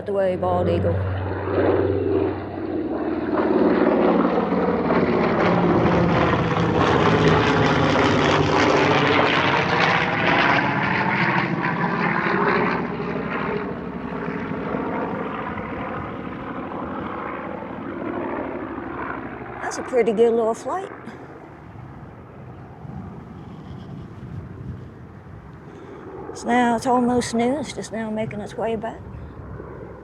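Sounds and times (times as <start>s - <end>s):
propeller plane passing overhead: 0.0s - 30.0s.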